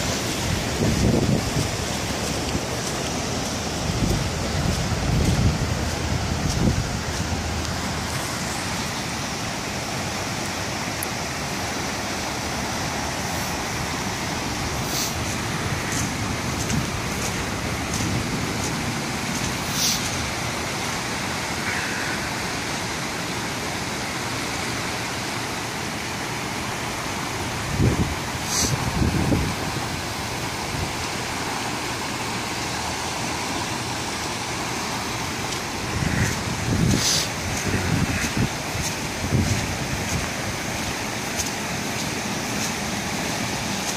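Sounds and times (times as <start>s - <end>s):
road traffic: 0.0s - 43.9s
rushing floodwater in creek: 0.0s - 43.9s.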